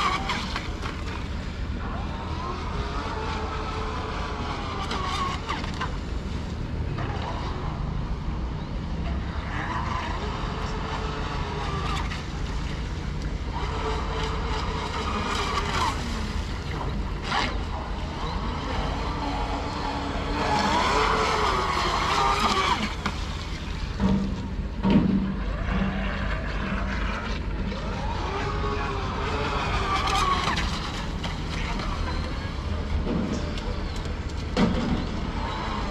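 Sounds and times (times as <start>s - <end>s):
electric boat motor whining: 0.0s - 35.9s.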